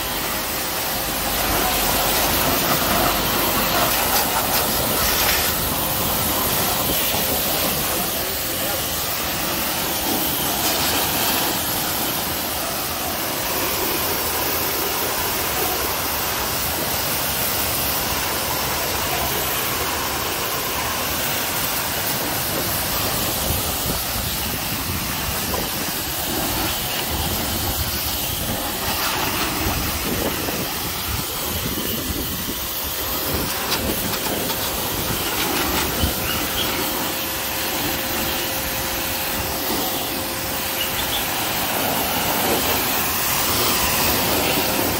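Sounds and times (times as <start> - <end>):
pressure washer spraying: 0.0 - 44.9.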